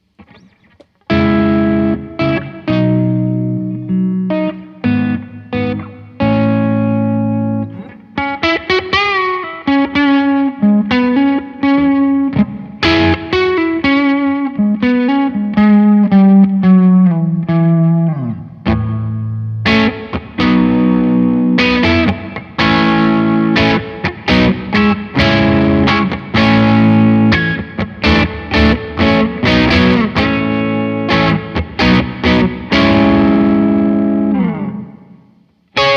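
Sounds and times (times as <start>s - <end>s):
distorted electric guitar: 0.0s - 35.9s.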